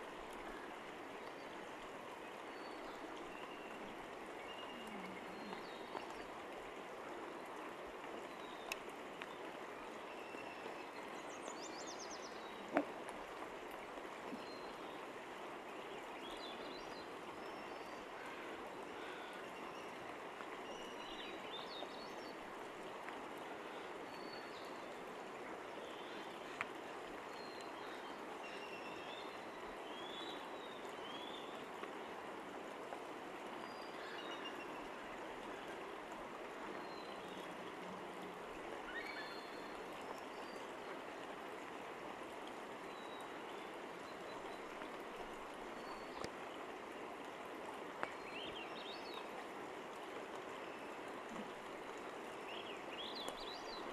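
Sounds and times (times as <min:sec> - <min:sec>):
flowing creek water: 0:00.0 - 0:53.9.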